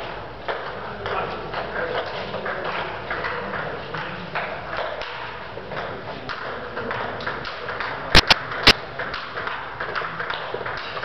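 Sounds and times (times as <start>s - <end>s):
table tennis balls ticking: 0.0s - 11.0s.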